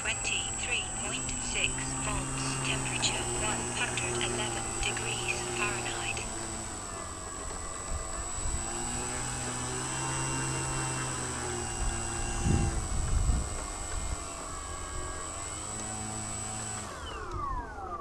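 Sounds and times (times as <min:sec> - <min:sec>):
electric motor and propeller: 0:00.0 - 0:18.0
low rumbling: 0:00.3 - 0:15.4.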